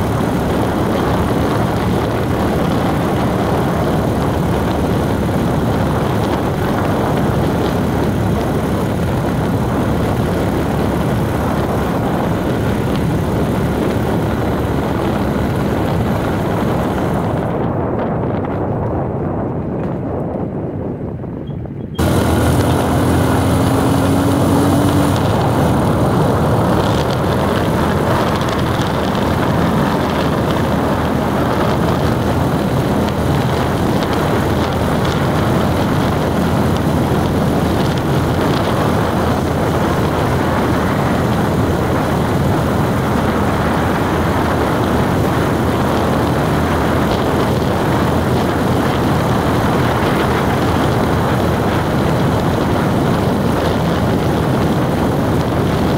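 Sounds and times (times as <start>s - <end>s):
road and wind noise: 0.0s - 55.9s
vehicle engine: 0.0s - 55.9s.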